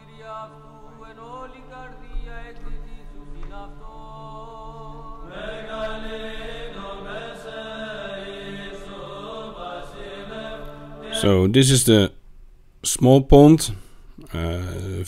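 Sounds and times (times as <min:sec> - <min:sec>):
voices chanting: 0:00.0 - 0:12.1.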